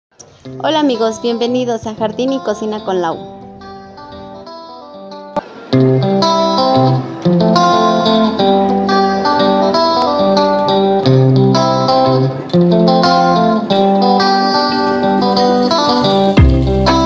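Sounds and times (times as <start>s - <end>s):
plucked guitar music: 0.1s - 17.0s.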